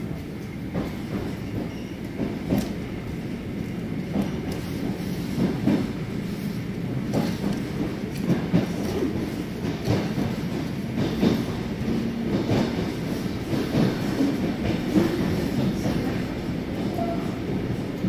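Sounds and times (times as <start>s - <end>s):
train running gear rumble: 0.0s - 18.0s.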